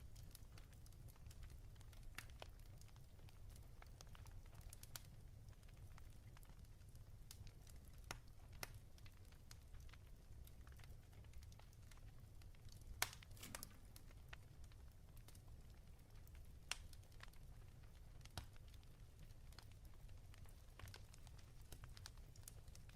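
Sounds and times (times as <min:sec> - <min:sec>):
fireplace crackling: 0:00.0 - 0:22.9.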